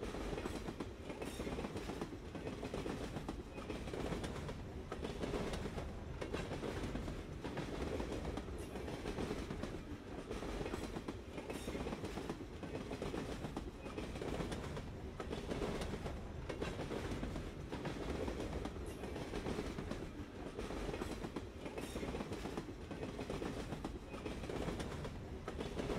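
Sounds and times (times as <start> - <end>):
train rumbling along track: 0.0 - 25.9.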